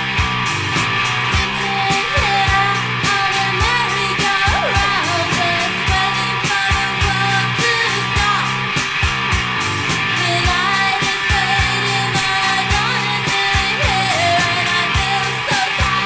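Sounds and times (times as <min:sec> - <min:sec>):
punk rock song: 0:00.0 - 0:16.0.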